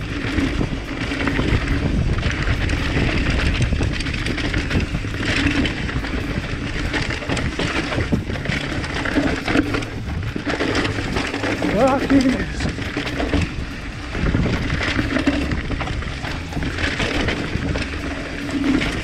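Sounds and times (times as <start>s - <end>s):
bike rattling and knocking: 0.0s - 19.0s
tyres crunching over dirt: 0.0s - 19.0s.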